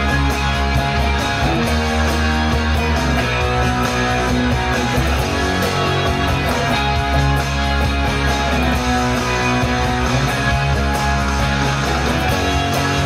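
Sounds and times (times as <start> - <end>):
electric guitar playing: 0.0 - 13.0
rock backing track: 0.0 - 13.0.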